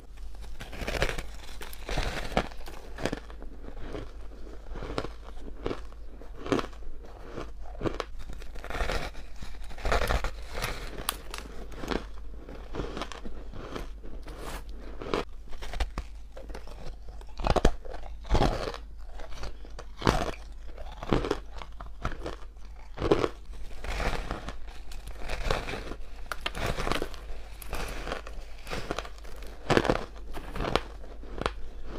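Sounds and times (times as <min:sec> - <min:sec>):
chewing crunchy ice: 0:00.0 - 0:31.9.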